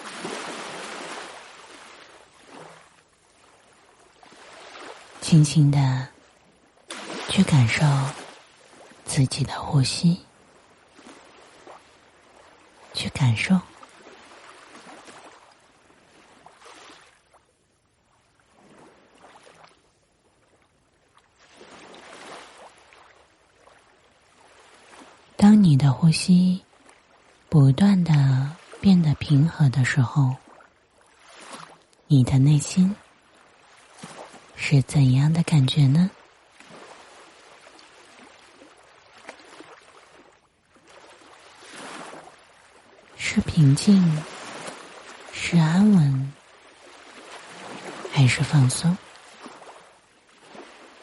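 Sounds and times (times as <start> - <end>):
soft ocean waves: 0.0 - 51.0.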